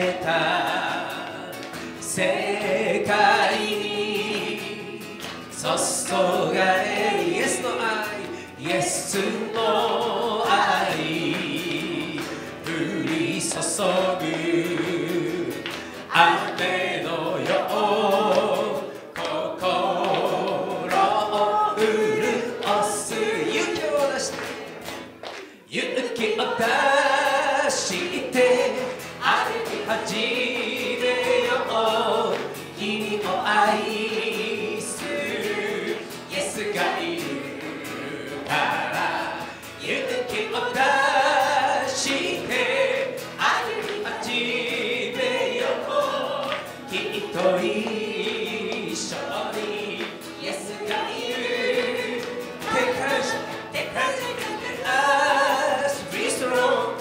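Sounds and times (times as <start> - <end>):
woman singing worship song: 0.0 - 25.0, 25.6 - 57.0
acoustic guitar: 0.0 - 57.0.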